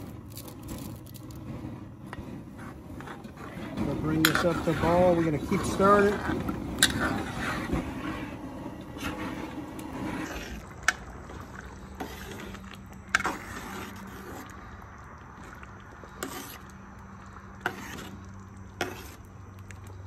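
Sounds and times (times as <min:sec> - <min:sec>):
metal spoon scraping a pot: 0:00.0 - 0:10.6, 0:11.4 - 0:14.6, 0:16.1 - 0:16.8, 0:17.5 - 0:19.3
gas burner rushing: 0:00.0 - 0:20.0.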